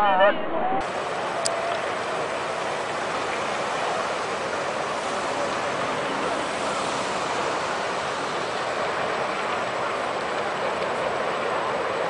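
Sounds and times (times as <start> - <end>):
flood water rushing: 0.8 - 12.0.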